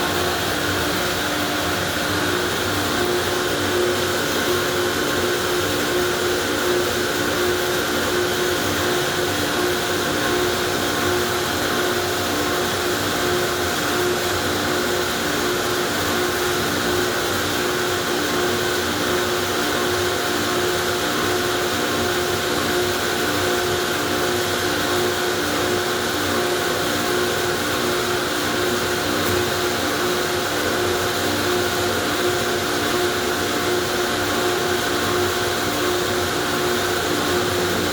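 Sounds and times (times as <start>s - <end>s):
car wash machinery hum: 0.0s - 37.9s.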